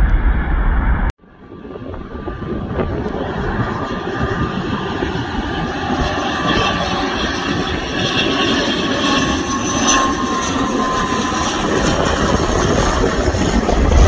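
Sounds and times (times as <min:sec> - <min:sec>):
airliner engines passing: 0:00.0 - 0:14.0.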